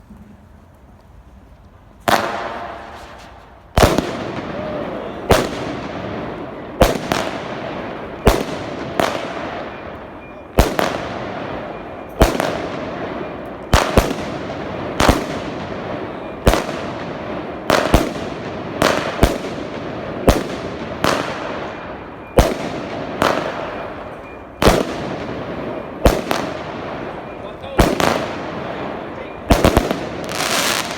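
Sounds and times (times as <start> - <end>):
firework cake bangs with crackle: 2.0 - 9.8, 10.6 - 30.9.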